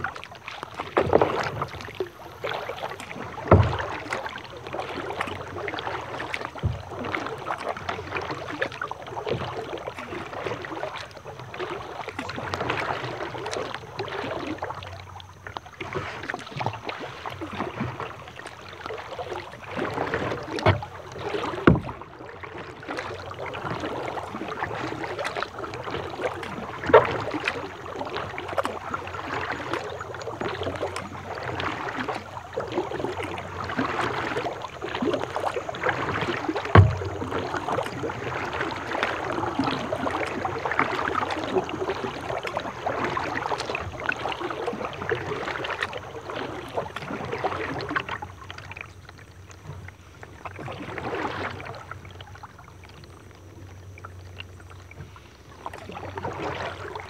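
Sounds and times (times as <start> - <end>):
knocks and splashes against hull: 0.0 - 57.0.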